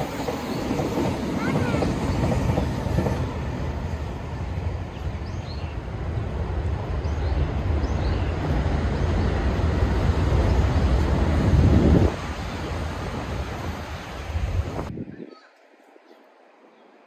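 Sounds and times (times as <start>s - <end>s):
electric train rumbling on track: 0.0s - 14.9s.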